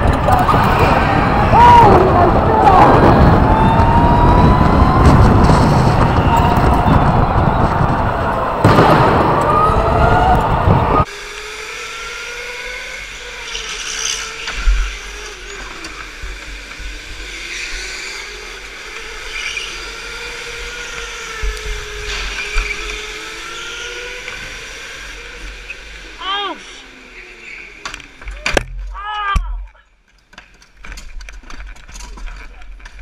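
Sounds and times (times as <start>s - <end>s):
electric go-kart motor whining: 0.0s - 28.4s.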